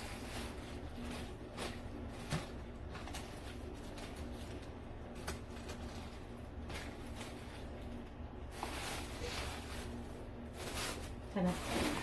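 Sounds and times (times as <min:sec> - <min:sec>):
low steady hum: 0:00.0 - 0:12.0
plastic bags rustling: 0:00.0 - 0:12.0.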